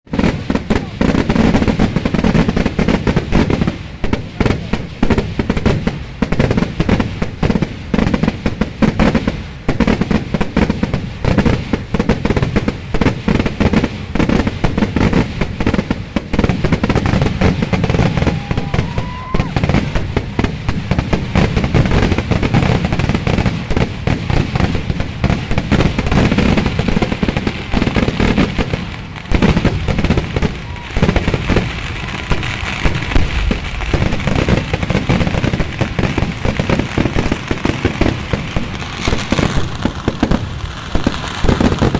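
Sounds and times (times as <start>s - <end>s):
rapid firecracker blasts: 0.0s - 41.9s.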